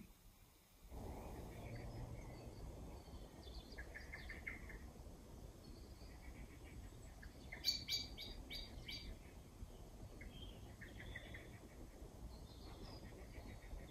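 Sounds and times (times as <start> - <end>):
birds chirping: 1.0 - 4.9, 5.6 - 13.9.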